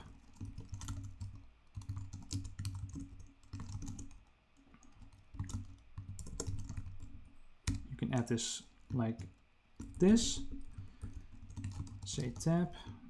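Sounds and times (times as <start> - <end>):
keyboard typing: 0.0 - 4.2, 4.8 - 13.0.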